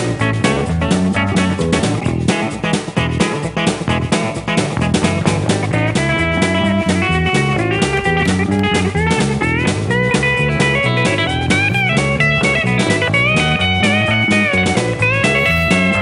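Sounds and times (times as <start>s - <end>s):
guitar with pitch bends: 0.0s - 16.0s.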